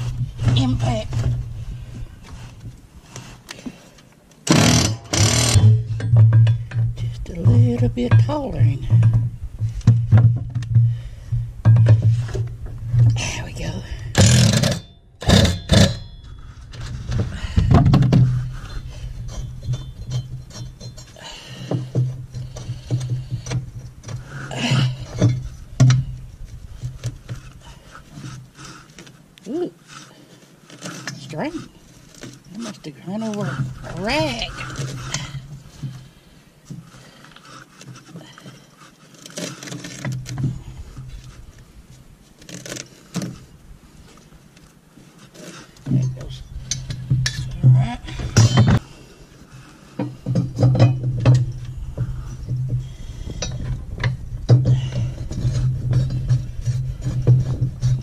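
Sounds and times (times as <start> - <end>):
hand tools scraping and clinking: 0.0 - 41.6, 42.3 - 48.9, 49.6 - 58.0.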